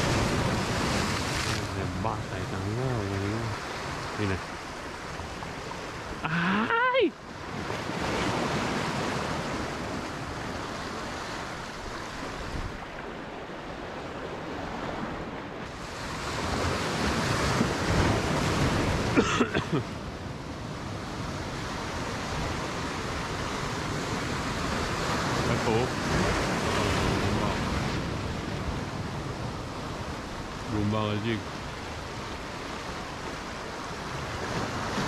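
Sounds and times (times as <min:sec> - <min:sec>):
wind buffeting microphone: 0:00.0 - 0:06.3, 0:07.3 - 0:19.2, 0:19.9 - 0:35.0
sea waves breaking over rocks: 0:00.0 - 0:35.0.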